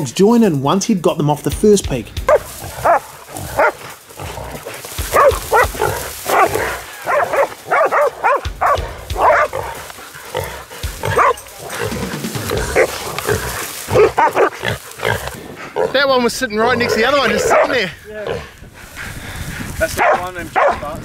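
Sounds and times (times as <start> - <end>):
dogs barking: 2.2 - 18.4, 19.9 - 21.0.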